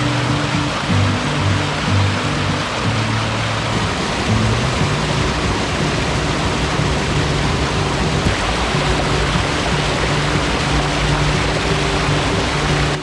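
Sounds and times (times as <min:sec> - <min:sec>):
background music with low notes: 0:00.0 - 0:13.0
stream water rushing: 0:00.0 - 0:13.0.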